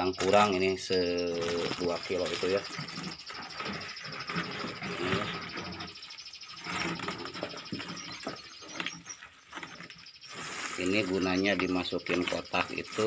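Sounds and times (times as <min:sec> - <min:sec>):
crickets chirping: 0:00.0 - 0:13.0
crickets rustling on cartons: 0:00.0 - 0:13.0.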